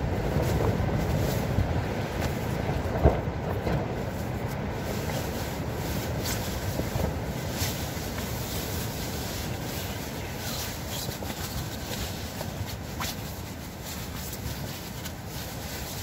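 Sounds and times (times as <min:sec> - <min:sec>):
strong wind buffeting tent: 0:00.0 - 0:16.0
clothing and gear rustling: 0:00.3 - 0:16.0.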